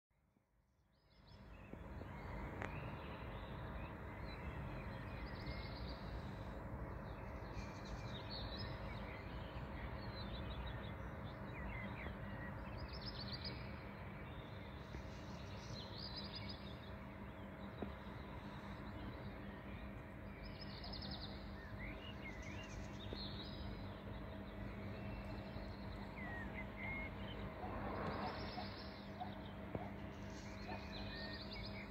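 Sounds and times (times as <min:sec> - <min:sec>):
low background hum: 0:00.6 - 0:31.9
songbirds twittering: 0:00.8 - 0:31.9.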